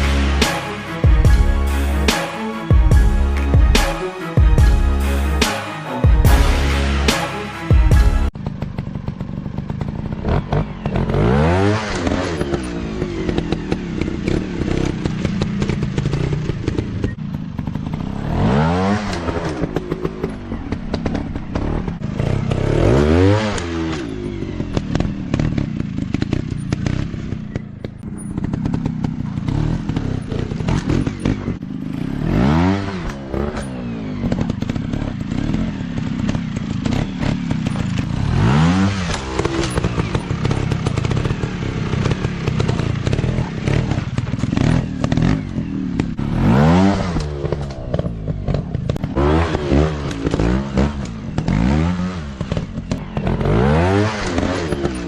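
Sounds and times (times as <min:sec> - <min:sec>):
dirt bike engines revving: 0:08.8 - 0:55.0.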